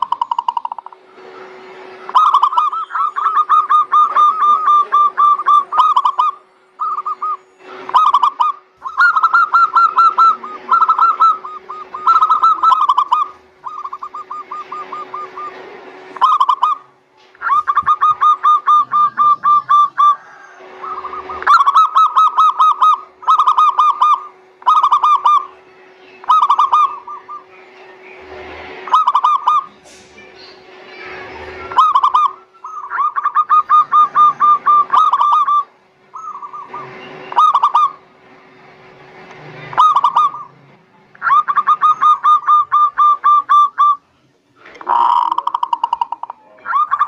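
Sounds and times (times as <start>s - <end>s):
doves cooing: 0.0s - 47.0s
faint steady hum: 0.0s - 47.0s.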